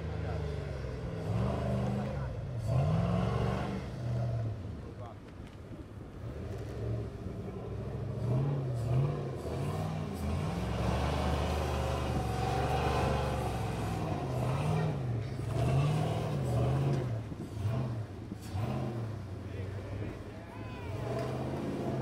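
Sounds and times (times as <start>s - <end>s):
engine revving: 0.0s - 4.6s, 6.2s - 22.0s.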